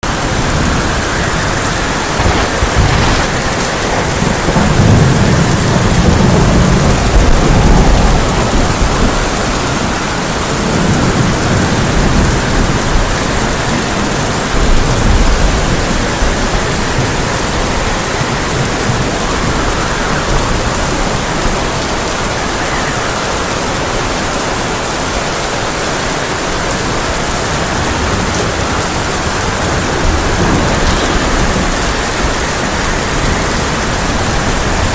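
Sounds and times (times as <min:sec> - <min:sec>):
heavy rain on a tin roof: 0:00.0 - 0:34.9
thunder rumbling: 0:00.0 - 0:34.9.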